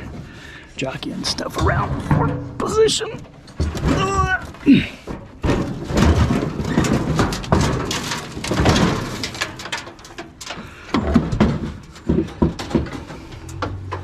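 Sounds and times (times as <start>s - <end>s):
knocks and clunks: 0.0s - 14.0s.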